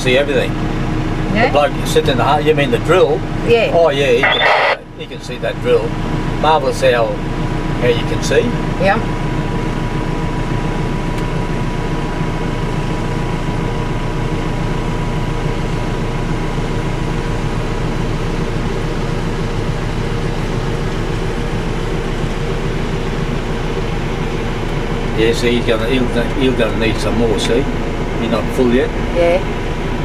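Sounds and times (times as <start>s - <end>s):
farm machinery engines droning: 0.0s - 30.0s.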